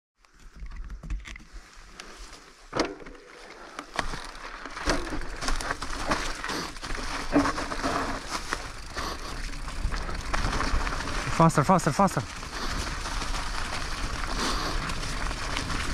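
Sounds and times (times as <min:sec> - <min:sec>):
bike tyres crunching leaves: 0:01.5 - 0:15.9.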